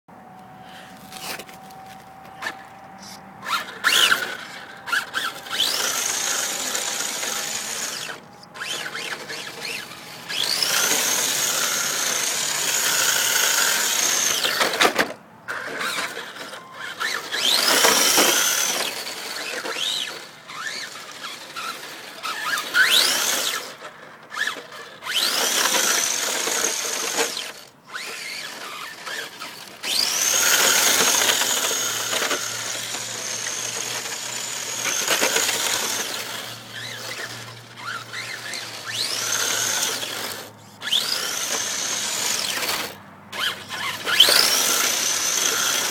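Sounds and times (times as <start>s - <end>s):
electric toy car motor whining: 0.6s - 45.9s.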